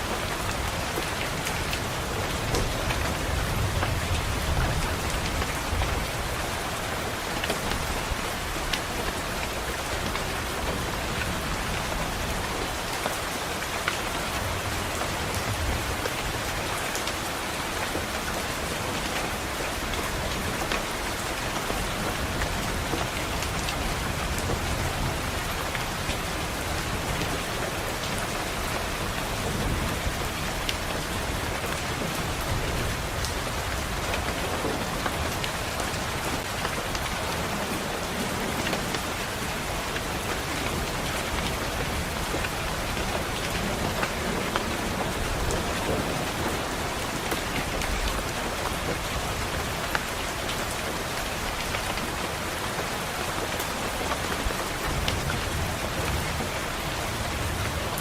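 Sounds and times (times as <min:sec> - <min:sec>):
rain pattering on a window: 0:00.0 - 0:58.0.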